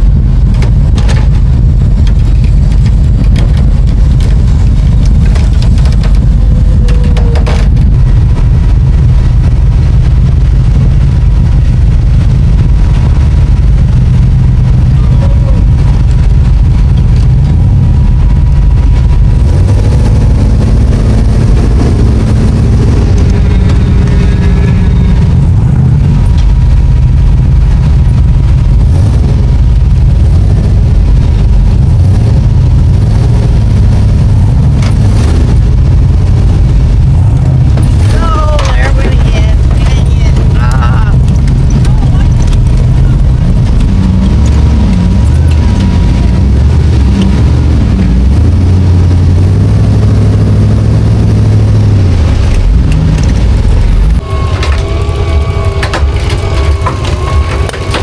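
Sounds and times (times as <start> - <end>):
off-road vehicle engine rumbling: 0.0 - 58.0.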